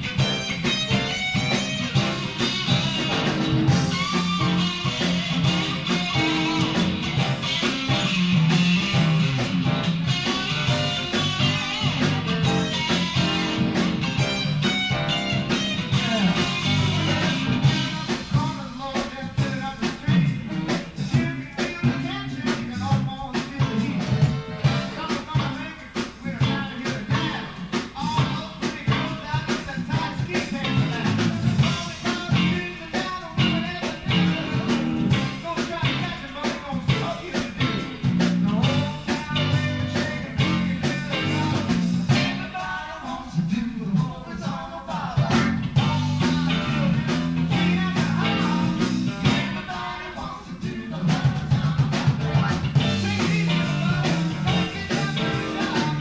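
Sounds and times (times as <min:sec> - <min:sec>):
band music: 0:00.0 - 0:56.0
guitar: 0:00.0 - 0:56.0
steady drum beat: 0:00.0 - 0:56.0.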